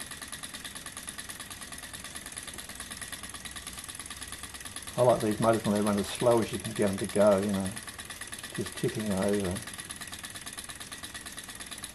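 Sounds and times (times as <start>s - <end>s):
model engine mechanical patter: 0.0s - 11.9s.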